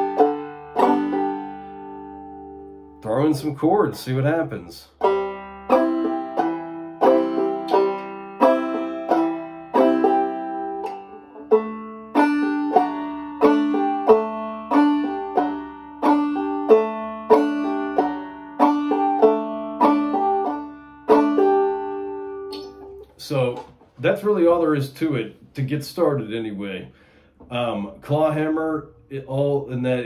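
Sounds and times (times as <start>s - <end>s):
banjo played clawhammer style: 0.0s - 25.2s.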